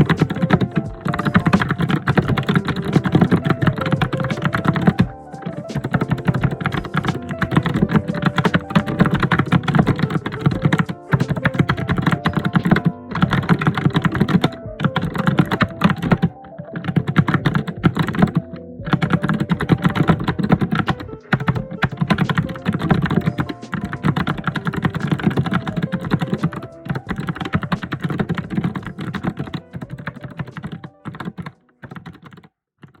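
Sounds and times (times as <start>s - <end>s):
fast typing on keyboard: 0.0s - 33.0s.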